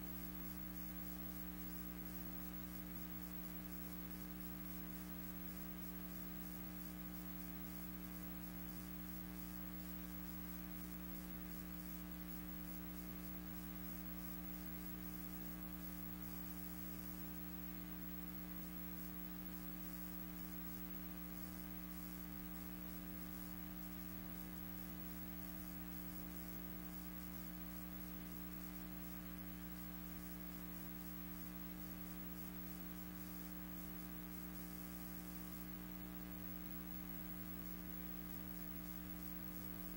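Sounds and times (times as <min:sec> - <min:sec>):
electrical mains hum: 0:00.0 - 0:39.9
faint hiss: 0:00.0 - 0:39.9.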